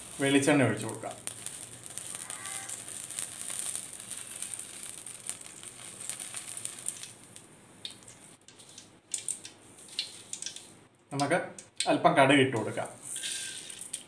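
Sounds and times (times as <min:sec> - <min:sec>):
oil sizzling in a wok: 0:00.0 - 0:10.7, 0:13.0 - 0:14.0.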